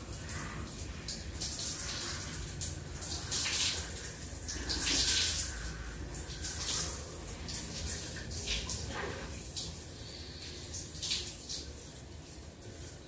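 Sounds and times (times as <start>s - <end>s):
shower water running and splashing: 0.0s - 13.0s.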